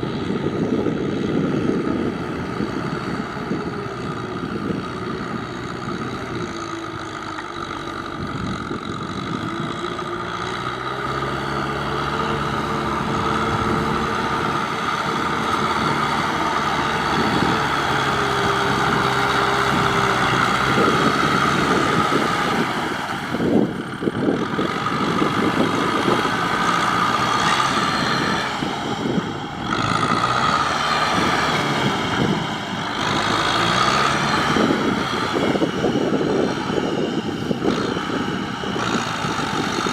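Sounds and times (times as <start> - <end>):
tractor engine working hard: 0.0 - 39.9.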